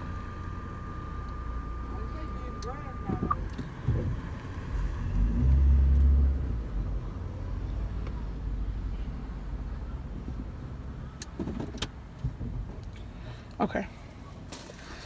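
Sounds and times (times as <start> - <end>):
car engine rumble: 0.0 - 15.0.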